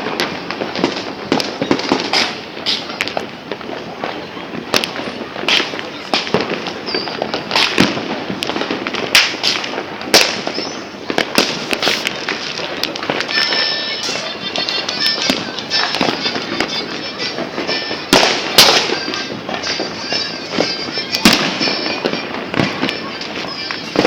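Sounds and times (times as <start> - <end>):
distant fireworks crackling: 0.0 - 24.0
firecrackers banging and popping: 0.0 - 24.0
high whistling firework: 0.0 - 24.0.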